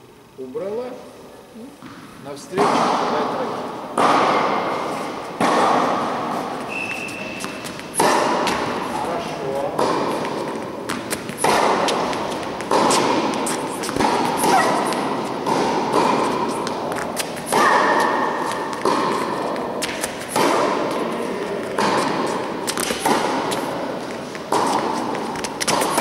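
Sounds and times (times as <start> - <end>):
ball bouncing on court: 1.8 - 26.0
rackets hitting tennis ball: 1.8 - 26.0.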